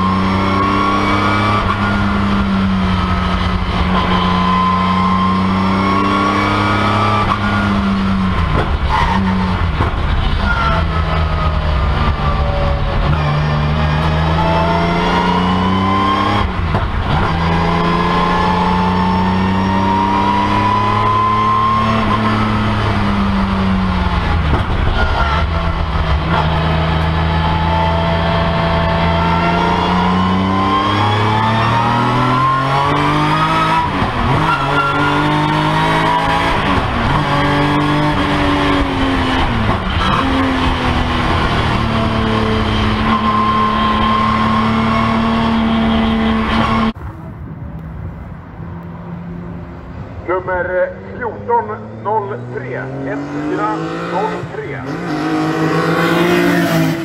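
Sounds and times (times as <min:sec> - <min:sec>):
racecar engine accelerating through gears: 0:00.0 - 0:47.1, 0:50.2 - 0:57.0.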